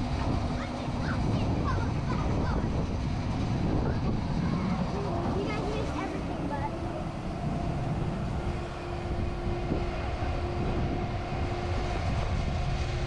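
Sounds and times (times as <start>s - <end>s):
idling machinery drone: 0.0s - 13.0s.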